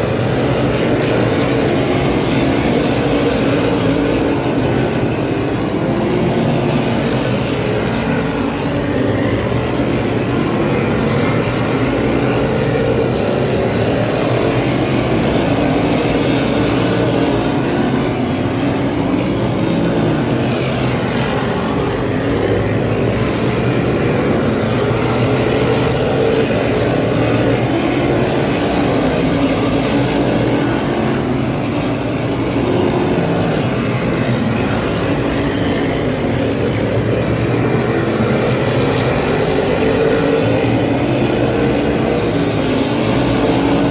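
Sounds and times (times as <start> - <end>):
race car engines droning: 0.0 - 43.9.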